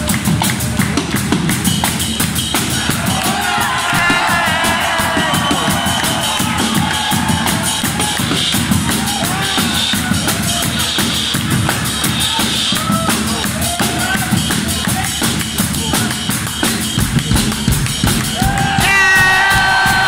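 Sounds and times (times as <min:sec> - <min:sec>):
drums and bass: 0:00.0 - 0:20.0
fast cymbal pattern: 0:00.0 - 0:20.0.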